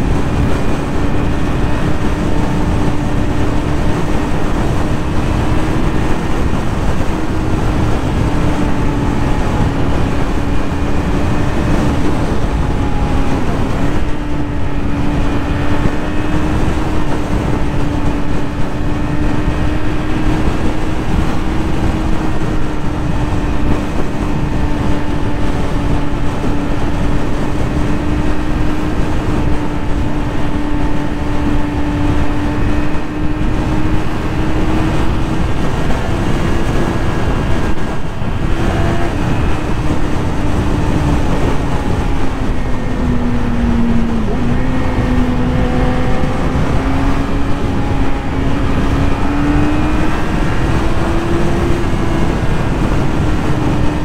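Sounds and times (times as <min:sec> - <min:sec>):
motorcycle engine revving high: 0:00.0 - 0:54.0
wind rush on microphone: 0:00.0 - 0:54.0.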